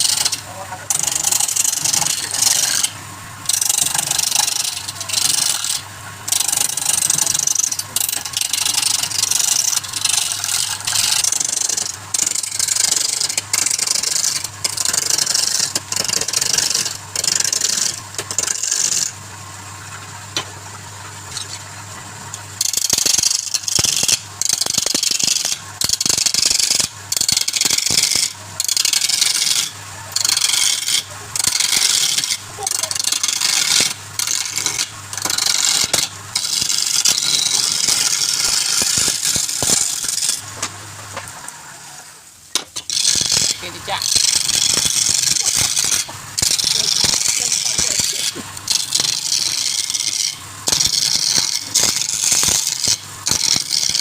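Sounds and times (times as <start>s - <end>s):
turning tool scraping wood: 0.0s - 19.2s, 21.2s - 41.6s, 42.6s - 54.0s
wood lathe humming: 0.0s - 42.2s, 42.8s - 54.0s.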